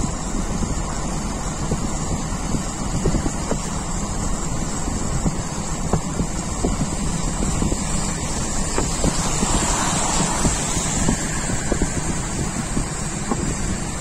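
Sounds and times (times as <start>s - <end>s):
vehicle road noise on wet road: 0.0s - 14.0s
wind rumbling on microphone: 0.0s - 14.0s.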